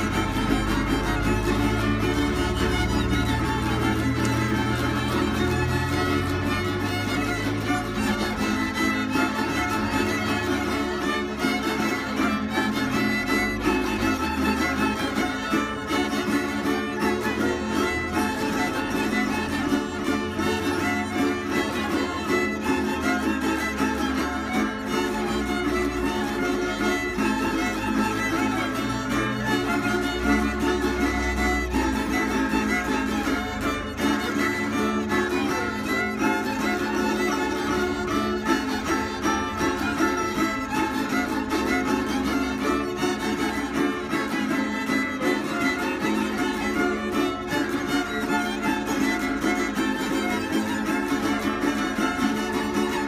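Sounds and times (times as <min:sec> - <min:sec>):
guitar strumming: 0:00.0 - 0:53.0
violins bowing melody: 0:00.0 - 0:53.0.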